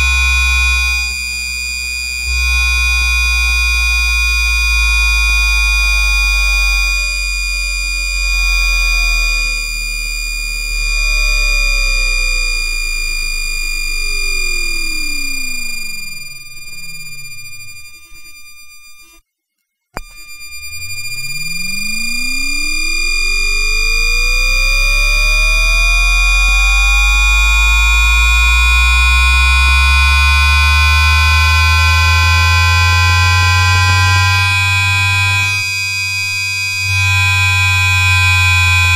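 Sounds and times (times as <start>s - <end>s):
steady high electric whine: 0.0s - 19.2s, 20.0s - 38.9s
traction motor tones: 0.0s - 19.2s, 20.0s - 38.9s.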